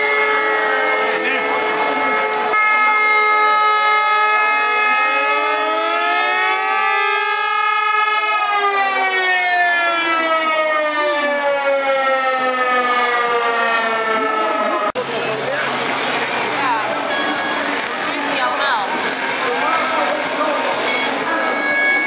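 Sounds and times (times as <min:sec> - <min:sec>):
siren wailing: 0:00.0 - 0:15.0, 0:16.7 - 0:22.0.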